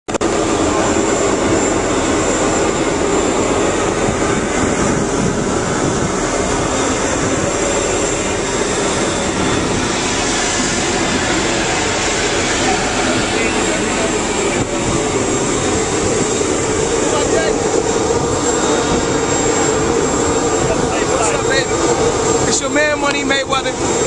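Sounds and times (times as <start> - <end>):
jet engines running: 0.1 - 24.0.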